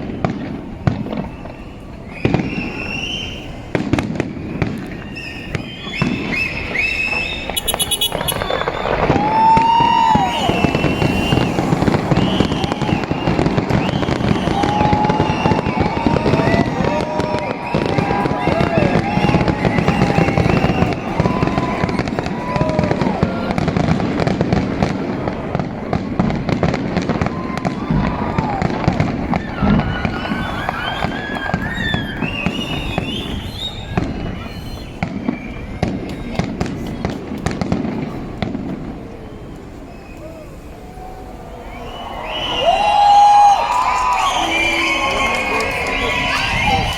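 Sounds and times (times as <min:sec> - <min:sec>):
fireworks bangs and crackles: 0:00.0 - 0:46.9
fireworks whistling: 0:00.0 - 0:46.9.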